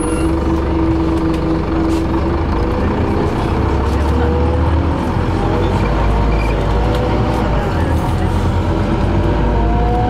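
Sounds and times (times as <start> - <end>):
bus engine drone: 0.0 - 10.0.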